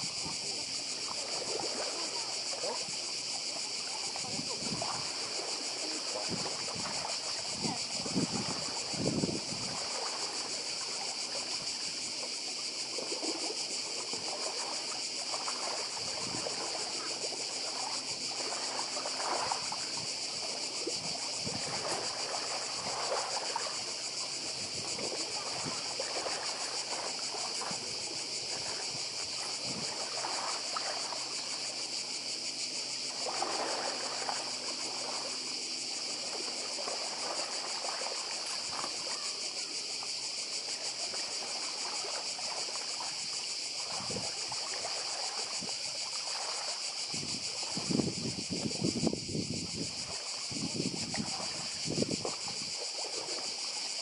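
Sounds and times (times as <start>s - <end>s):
cicadas buzzing: 0.0s - 54.0s
waves lapping against rocks: 0.0s - 54.0s.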